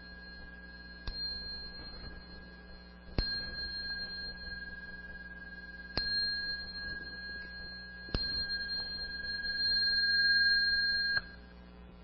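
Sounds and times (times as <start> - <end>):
small bell ringing: 0.0 - 11.5.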